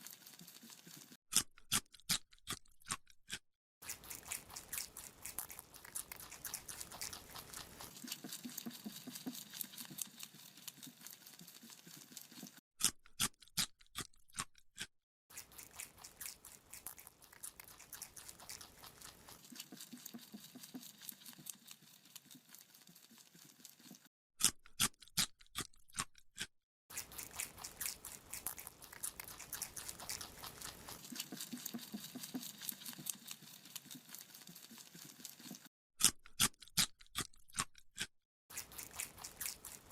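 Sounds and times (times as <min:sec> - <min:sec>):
rabbit chewing carrot crunches: 0:00.0 - 0:39.9.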